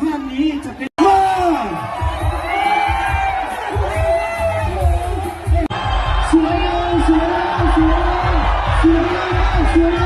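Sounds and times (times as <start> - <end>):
large crowd cheering and shouting: 0.0 - 10.0.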